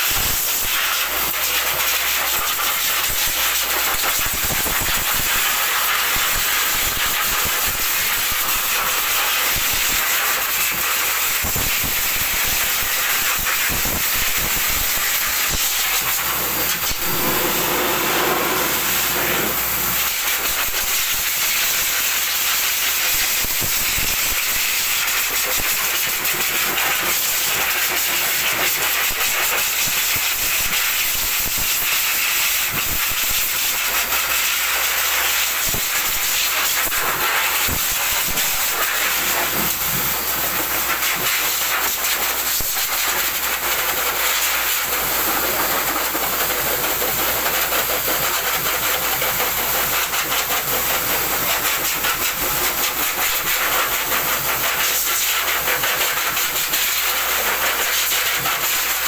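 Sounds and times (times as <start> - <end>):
pet dryer blowing air: 0.0 - 31.1, 35.3 - 59.0.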